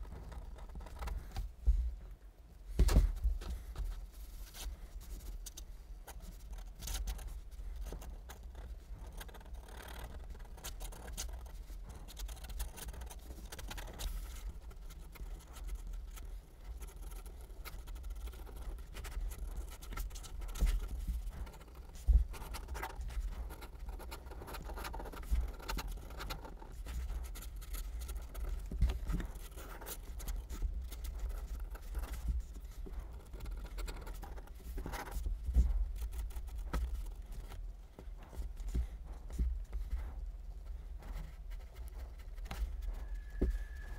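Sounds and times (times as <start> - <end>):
low steady hum: 0.0 - 43.9
pen scratching on paper: 4.6 - 43.9.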